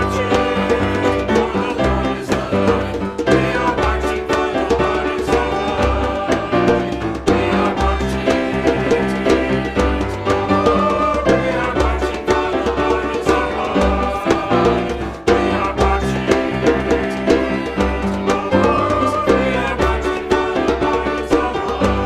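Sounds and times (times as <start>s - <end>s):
upbeat hymn music: 0.0s - 22.0s.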